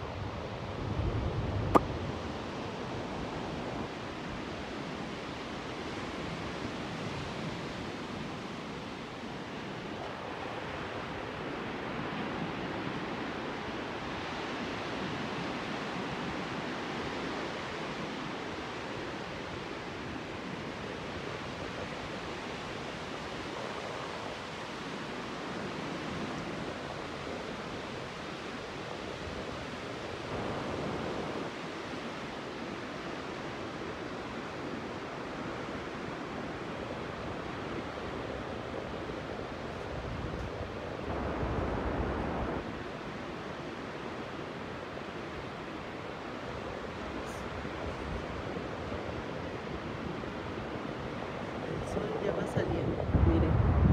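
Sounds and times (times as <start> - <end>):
surf washing on beach: 0.0 - 53.9.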